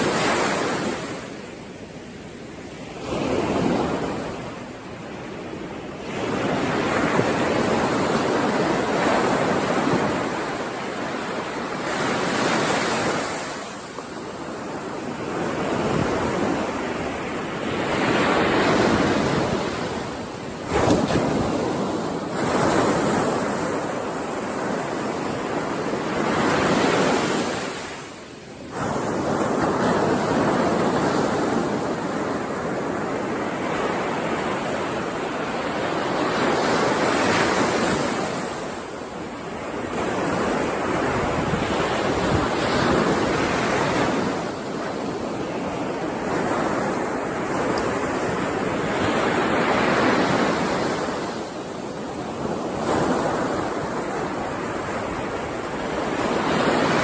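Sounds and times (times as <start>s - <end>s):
ocean surf breaking on shore: 0.0s - 57.0s.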